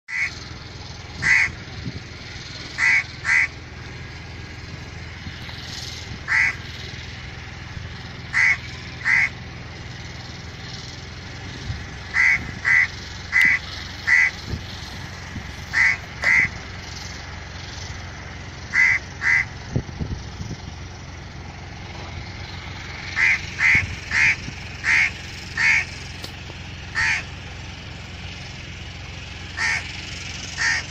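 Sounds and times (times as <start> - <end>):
birds calling: 0.1 - 20.0, 21.1 - 30.9.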